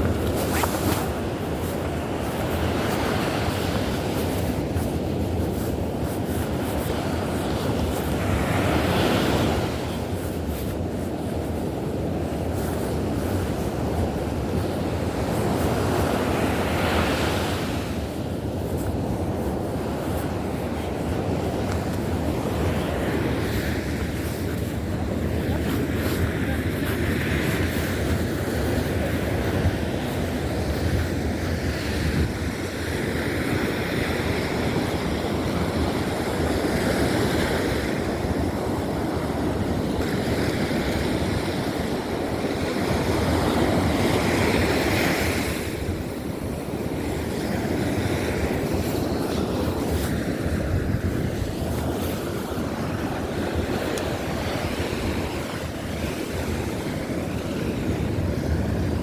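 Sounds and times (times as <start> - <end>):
waves breaking on beach: 0.0 - 59.0
wind on microphone: 0.0 - 59.0.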